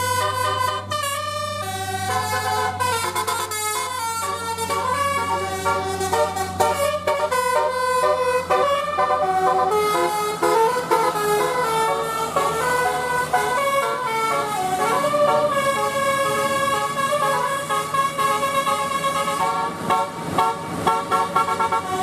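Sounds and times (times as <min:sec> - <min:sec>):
air horns playing a melody: 0:00.0 - 0:22.0.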